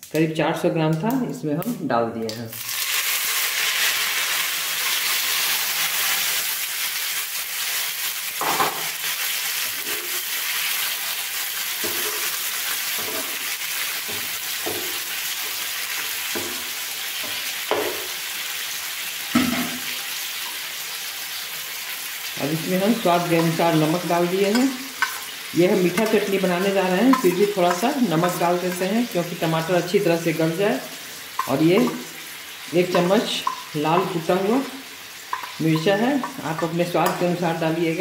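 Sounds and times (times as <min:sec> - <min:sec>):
tomatoes sizzling in hot oil: 0:00.0 - 0:38.0.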